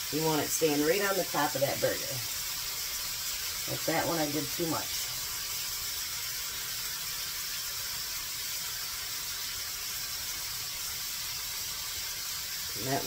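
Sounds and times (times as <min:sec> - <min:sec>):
burgers sizzling in a skillet: 0:00.0 - 0:13.0.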